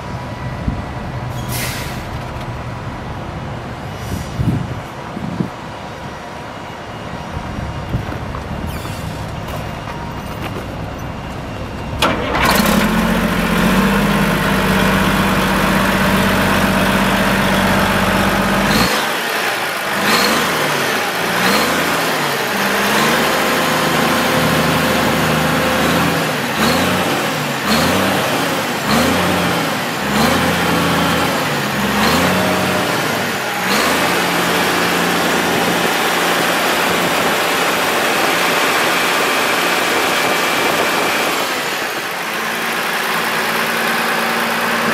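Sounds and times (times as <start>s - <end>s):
diesel engine starting and idling: 8.6s - 44.9s.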